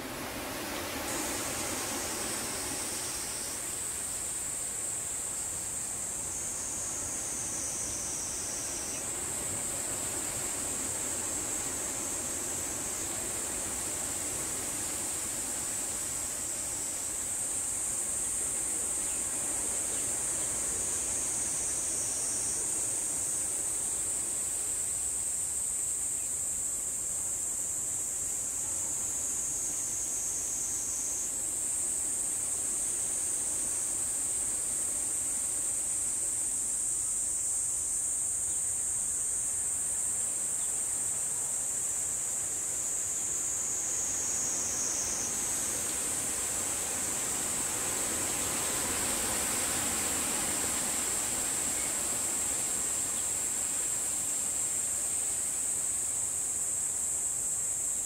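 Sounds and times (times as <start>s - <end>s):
faint low hiss: 0.0s - 58.0s
insect buzzing drone: 0.0s - 58.0s.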